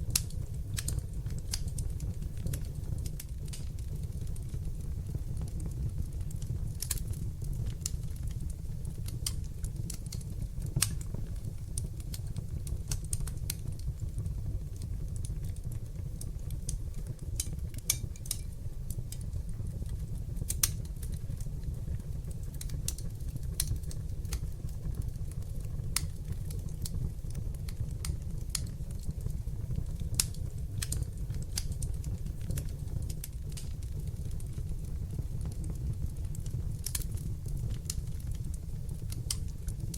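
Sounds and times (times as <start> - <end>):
fire flames rumbling: 0.0 - 39.9
wood fire crackling and popping: 0.0 - 39.9.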